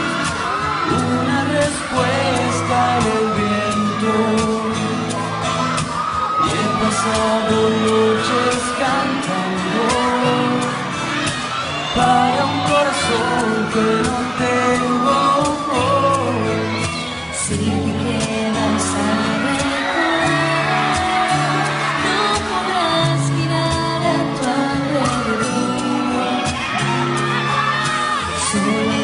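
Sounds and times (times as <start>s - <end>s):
live pop song over sound system: 0.0s - 29.0s.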